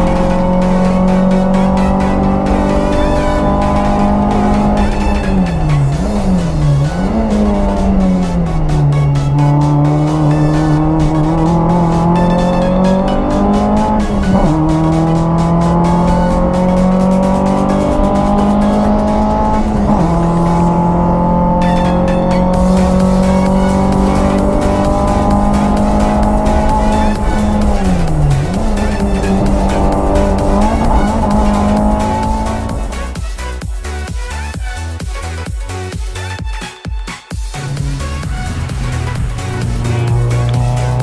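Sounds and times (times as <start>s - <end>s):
car engine accelerating hard: 0.0s - 35.5s, 37.4s - 41.0s.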